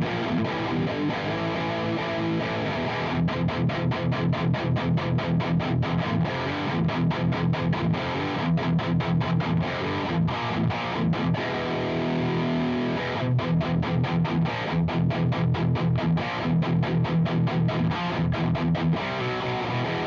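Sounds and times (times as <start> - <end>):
distorted electric guitar chugging riff: 0.0 - 20.0.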